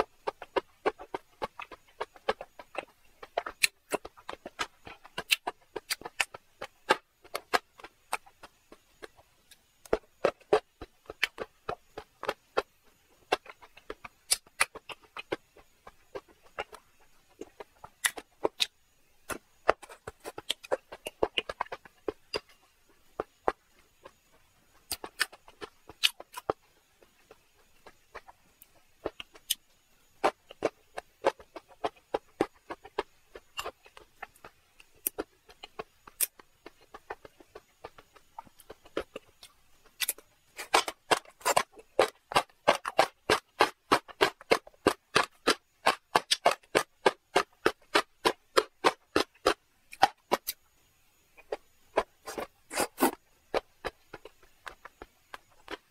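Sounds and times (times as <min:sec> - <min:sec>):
mouth chewing and smacking: 0:00.0 - 0:50.6, 0:51.2 - 0:55.9.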